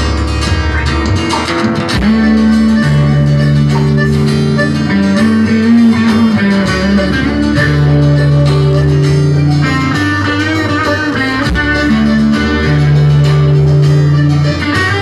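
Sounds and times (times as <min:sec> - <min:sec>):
guitar playing: 0:00.0 - 0:15.0
instrumental band music: 0:00.0 - 0:15.0.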